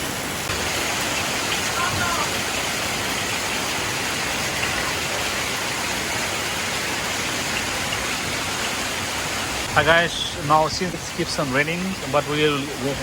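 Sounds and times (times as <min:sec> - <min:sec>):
heavy rain pouring: 0:00.0 - 0:13.0
river rushing: 0:00.0 - 0:13.0.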